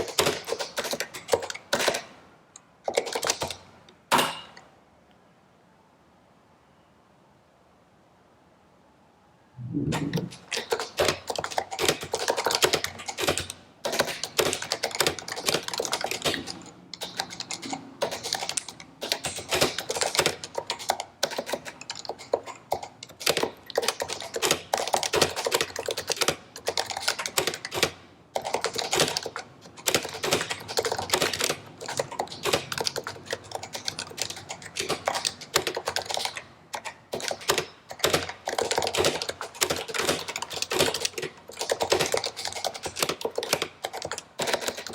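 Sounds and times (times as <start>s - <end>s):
keyboard typing: 0.0s - 2.1s, 2.8s - 3.7s, 9.7s - 44.9s.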